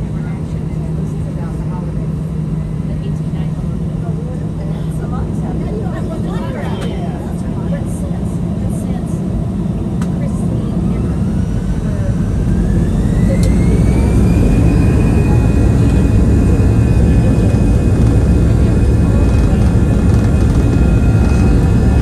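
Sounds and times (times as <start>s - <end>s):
jet engine whine rising: 0.0s - 22.0s
loud low engine rumble: 0.0s - 22.0s.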